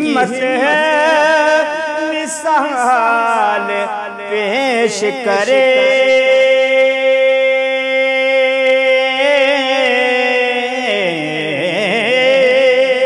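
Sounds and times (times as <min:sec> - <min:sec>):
man singing solo: 0:00.0 - 0:13.0.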